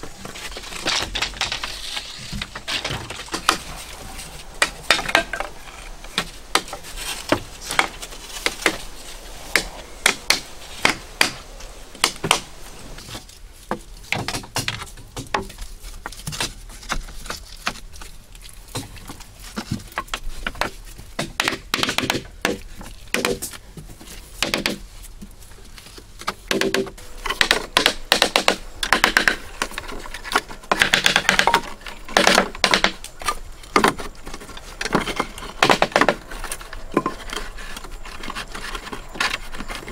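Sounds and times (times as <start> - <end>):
bamboo poles knocking: 0.0 - 8.8, 9.4 - 12.5, 13.1 - 17.8, 18.7 - 24.9, 26.2 - 39.9.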